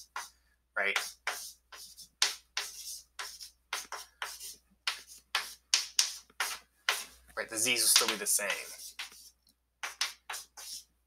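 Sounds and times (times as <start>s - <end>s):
chalk tapping and scratching on blackboard: 0.0s - 11.0s.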